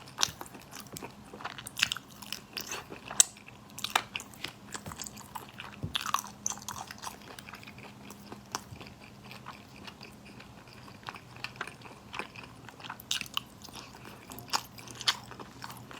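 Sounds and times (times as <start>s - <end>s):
person chewing crunchy food: 0.0s - 15.9s.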